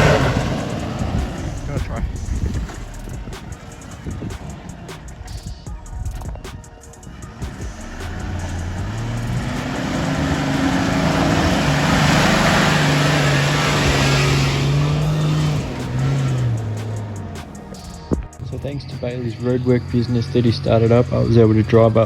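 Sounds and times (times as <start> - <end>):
vehicle engine pulling uphill: 0.0 - 22.0.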